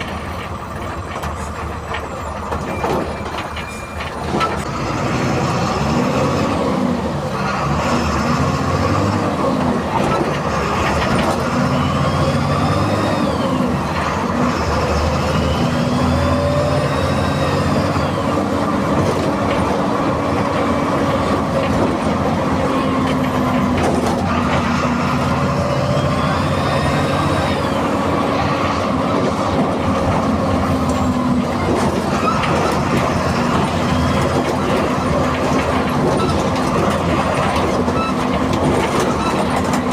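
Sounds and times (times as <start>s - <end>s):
diesel bus engine revving: 4.2s - 39.9s.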